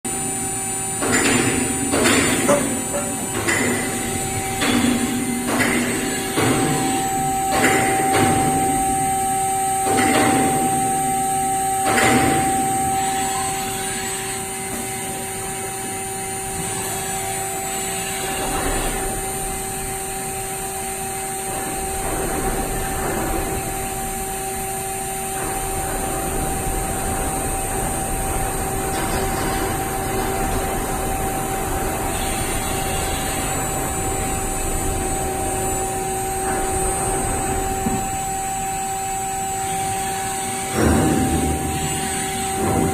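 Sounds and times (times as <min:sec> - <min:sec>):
machine whine: 0:00.1 - 0:42.9.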